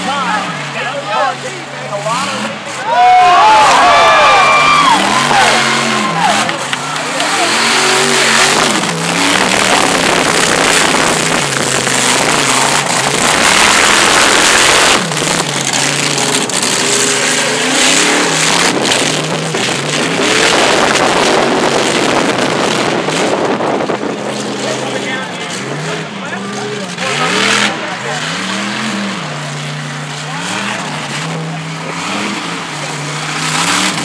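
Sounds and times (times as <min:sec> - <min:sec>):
truck churning through mud and water: 0:00.0 - 0:34.0
truck engine revving: 0:00.0 - 0:34.0.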